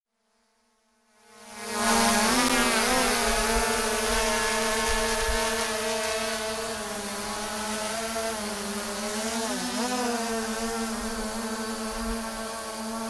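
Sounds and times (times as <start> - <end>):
drone propellers buzzing whine: 1.5 - 13.0.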